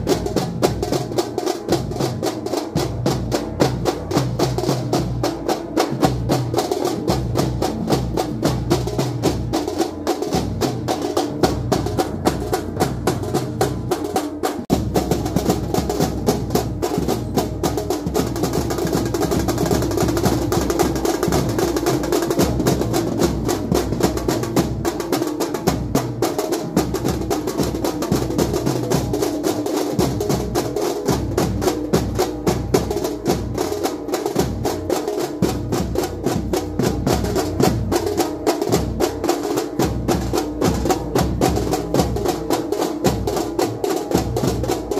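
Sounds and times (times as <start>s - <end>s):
drummers beating large drums: 0.0s - 44.9s.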